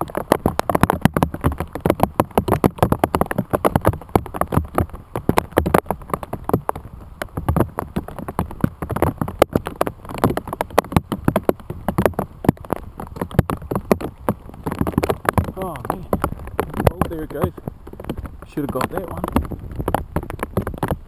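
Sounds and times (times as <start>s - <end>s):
hail and rain on plastic bag: 0.0s - 21.0s.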